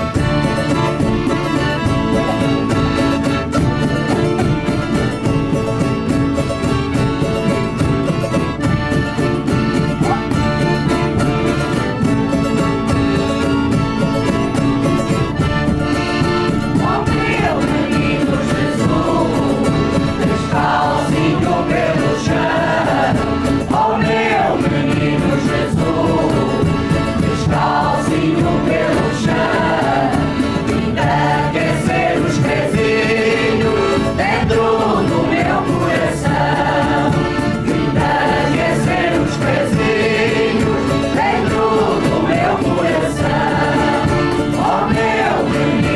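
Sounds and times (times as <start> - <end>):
group of voices singing: 0.0 - 45.9
instrumental accompaniment: 0.0 - 45.9.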